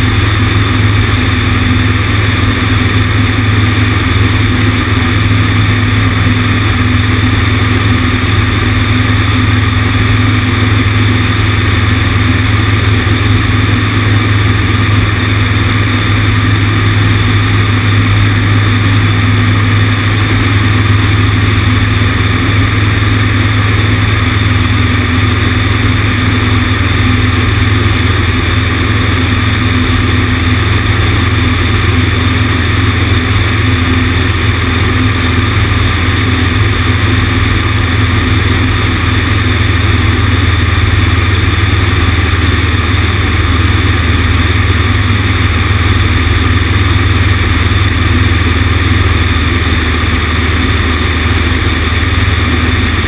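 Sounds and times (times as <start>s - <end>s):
airplane engine and propeller droning: 0.0s - 53.0s.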